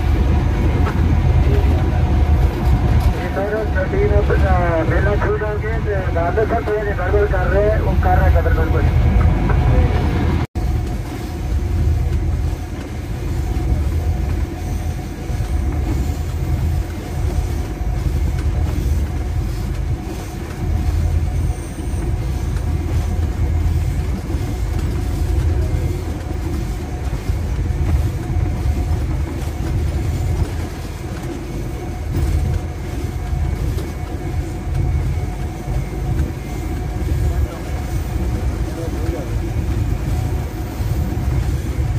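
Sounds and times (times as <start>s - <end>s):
diesel locomotive rumble: 0.0s - 41.9s
wheel and rail noise: 0.0s - 41.9s.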